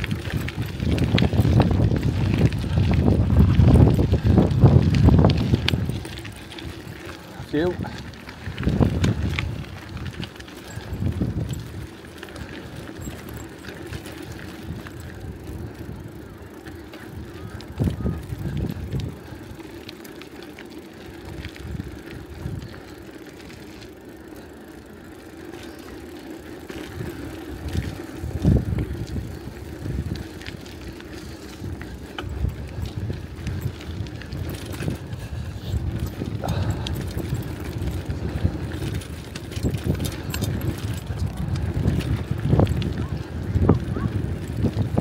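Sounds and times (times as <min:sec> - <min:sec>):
bike tyre rumble on dirt: 0:00.0 - 0:45.0.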